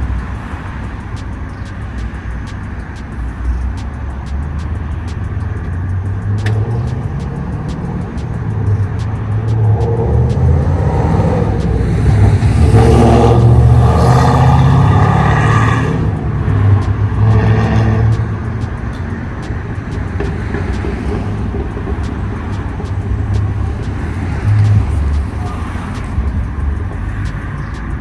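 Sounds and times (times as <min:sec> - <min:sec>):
motor vehicles passing: 0:00.0 - 0:28.0
steady low traffic rumble: 0:00.0 - 0:28.0.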